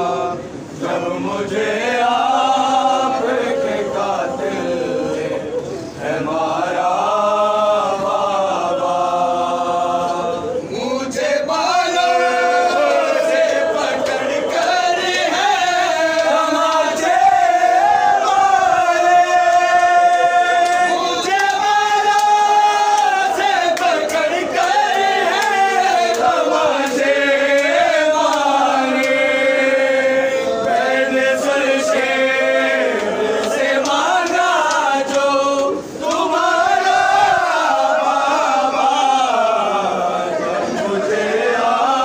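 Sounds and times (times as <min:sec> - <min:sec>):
men chanting a mourning lament: 0:00.0 - 0:42.0.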